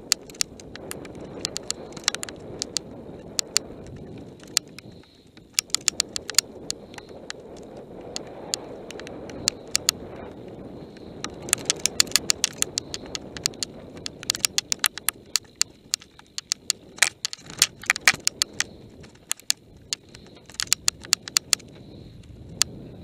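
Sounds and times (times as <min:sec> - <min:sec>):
bike rattling clicks and knocks: 0:00.0 - 0:10.0, 0:10.9 - 0:22.7
wind and rolling tyres rumble: 0:00.0 - 0:23.0.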